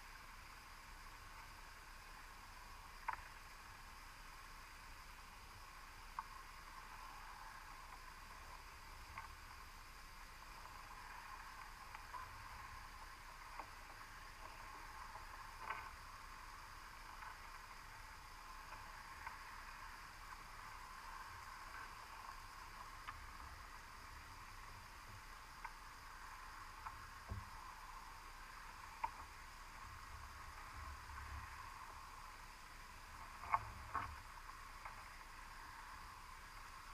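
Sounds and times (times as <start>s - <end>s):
faint irregular clicks: 0.0s - 36.9s
faint underwater hiss: 0.0s - 36.9s.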